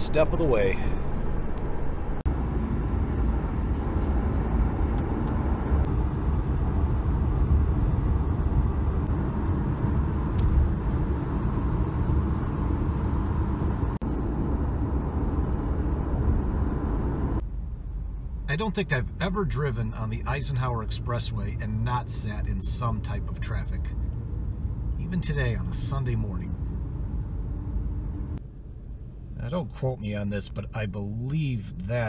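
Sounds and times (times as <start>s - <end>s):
road and tyre rumble: 0.0s - 32.0s.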